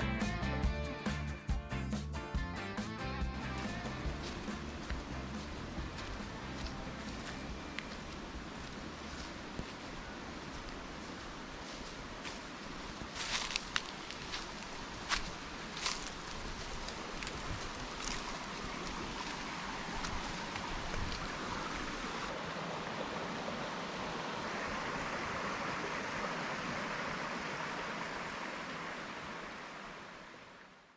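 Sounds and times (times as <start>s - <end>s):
flowing creek water: 3.3s - 30.9s.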